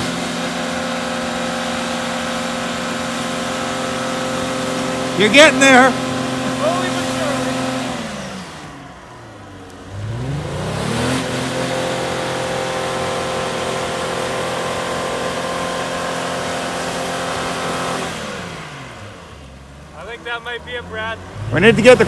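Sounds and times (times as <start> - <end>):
car engine revving hard: 0.0 - 22.0.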